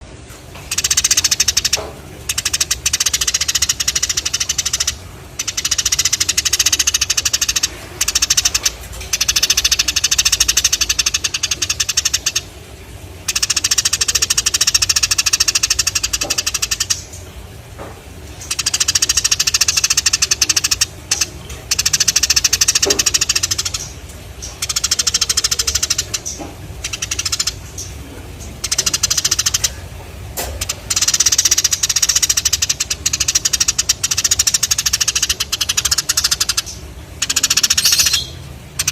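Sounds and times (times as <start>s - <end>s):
sparrows chattering: 0.6s - 12.5s, 13.2s - 17.2s, 18.3s - 29.9s, 30.5s - 38.9s.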